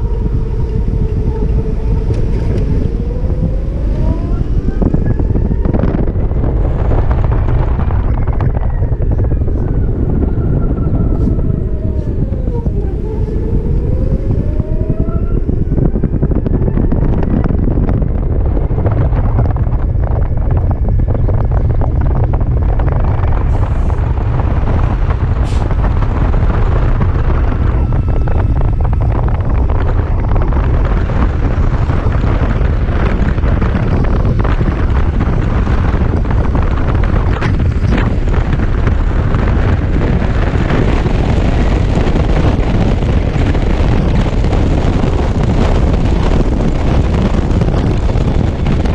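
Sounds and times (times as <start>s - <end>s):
road noise: 0.0s - 48.9s
wind buffeting microphone: 0.0s - 48.9s.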